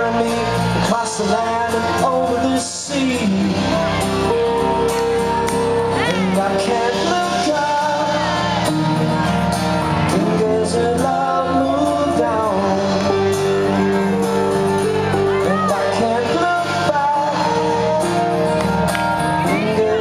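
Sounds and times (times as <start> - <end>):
live band music: 0.0 - 20.0
strummed acoustic guitar: 0.0 - 20.0.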